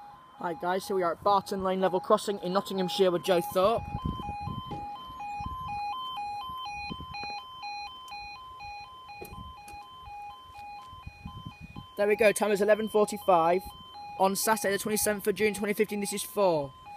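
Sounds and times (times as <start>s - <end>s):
level crossing two-tone alarm: 0.0s - 16.9s.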